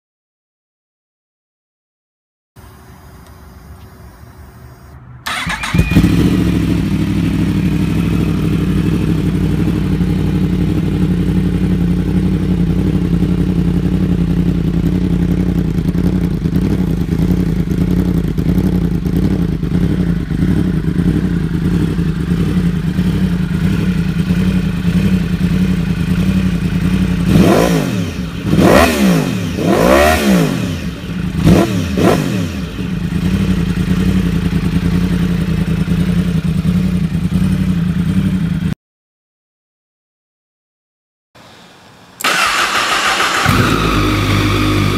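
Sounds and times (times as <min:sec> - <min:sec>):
motorcycle engine idling: 0:02.6 - 0:38.7, 0:41.4 - 0:44.9.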